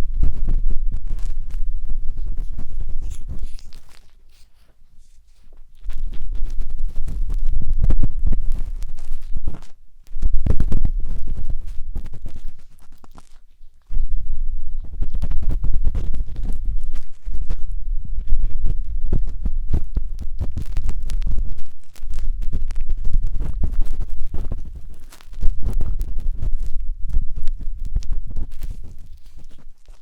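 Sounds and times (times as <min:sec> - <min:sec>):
faint rustle: 0:00.0 - 0:30.0
matchstick scratching on microphone: 0:00.0 - 0:30.0.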